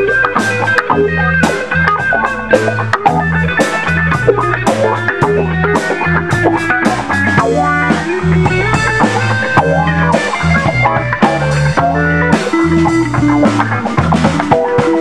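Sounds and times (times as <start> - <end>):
band playing funk: 0.0 - 15.0
snare and cymbals beat: 0.0 - 15.0.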